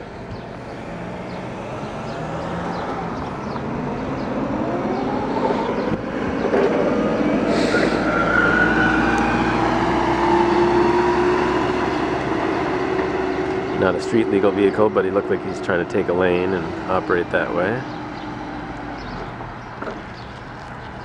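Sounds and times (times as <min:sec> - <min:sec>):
car passing: 0:00.0 - 0:21.0
forklift engine driving past: 0:00.0 - 0:21.0.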